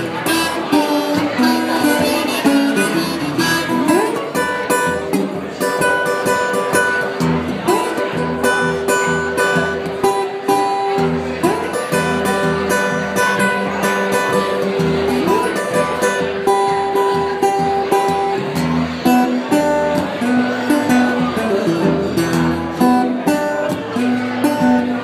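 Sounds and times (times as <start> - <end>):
blues guitar instrumental: 0.0 - 25.0.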